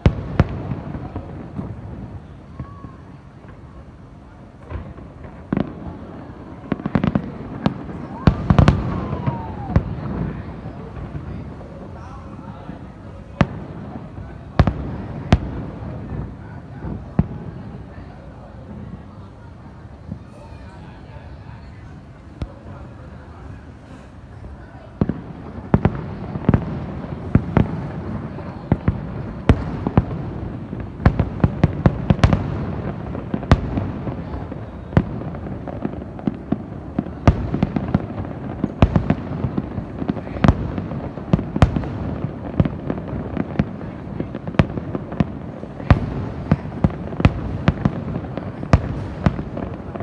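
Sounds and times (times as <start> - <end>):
sharp firework bangs: 0.0 - 3.9, 4.5 - 20.8, 22.2 - 50.0
rumble of distant fireworks: 0.0 - 50.0.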